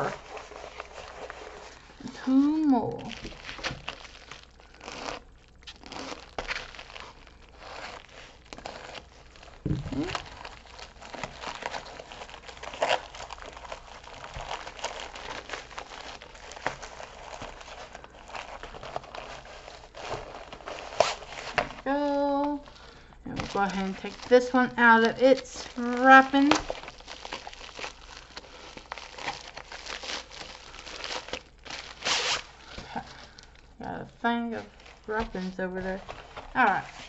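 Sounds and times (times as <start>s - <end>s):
plastic packaging crinkling and tearing: 0.0s - 37.0s.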